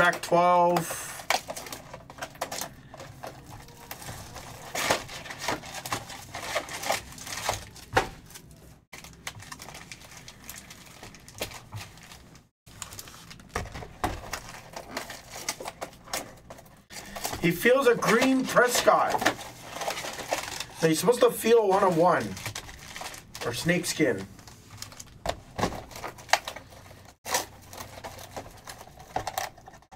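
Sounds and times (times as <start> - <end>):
cards clicking and rustling: 0.0 - 29.9
plastic wrappers crinkling and tearing: 0.0 - 29.9.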